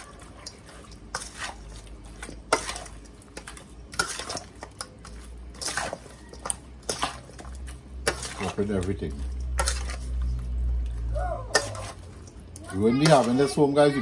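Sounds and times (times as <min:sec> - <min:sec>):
metal utensil scraping steel bowl: 0:00.0 - 0:10.5, 0:11.5 - 0:14.0
raw chicken stirred in marinade: 0:00.0 - 0:14.0.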